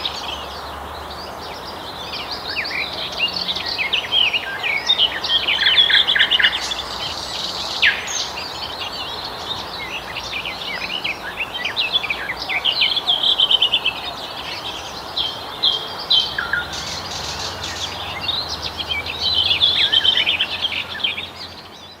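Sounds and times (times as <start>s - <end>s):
nightingales singing: 0.0s - 22.0s.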